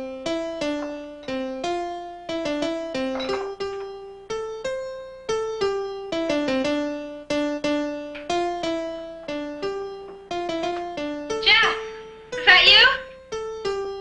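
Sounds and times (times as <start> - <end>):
keyboard melody: 0.0 - 14.0.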